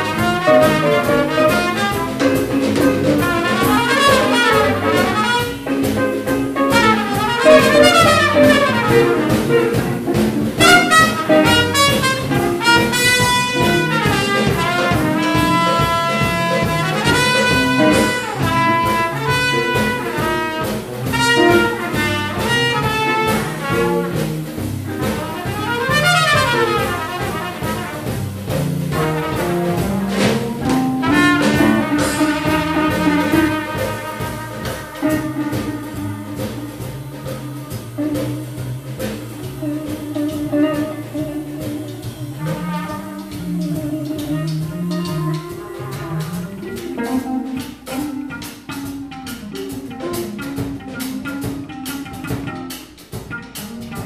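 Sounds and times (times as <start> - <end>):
brass horn melody: 0.0 - 48.8
jazz quartet playing: 0.0 - 54.0.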